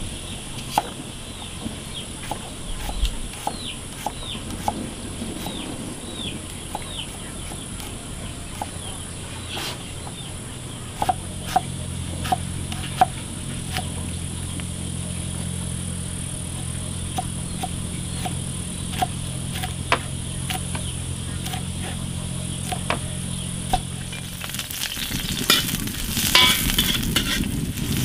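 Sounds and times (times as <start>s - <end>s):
bird chirping: 0.0s - 28.0s
steady high-pitched hiss: 0.0s - 28.0s.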